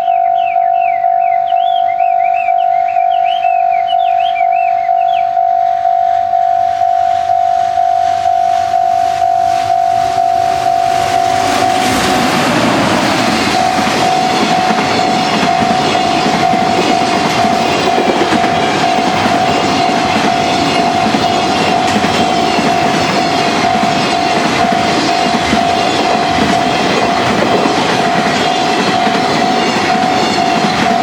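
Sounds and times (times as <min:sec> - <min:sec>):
freight train rolling: 0:00.0 - 0:31.0
level crossing bell ringing: 0:00.0 - 0:31.0.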